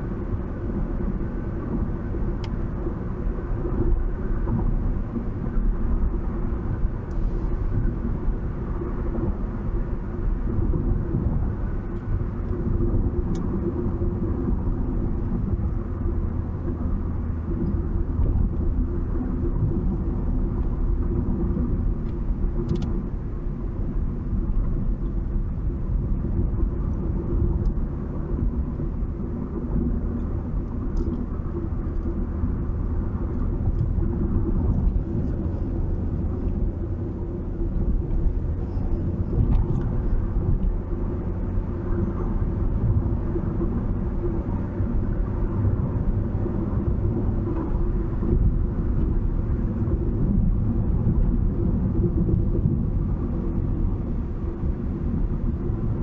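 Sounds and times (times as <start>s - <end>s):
vehicle driving rumble: 0.0s - 56.0s.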